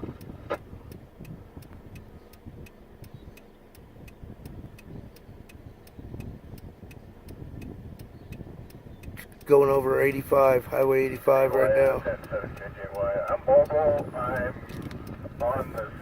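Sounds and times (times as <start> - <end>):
car cabin rumble: 0.0 - 16.0
light ticking: 0.0 - 16.0.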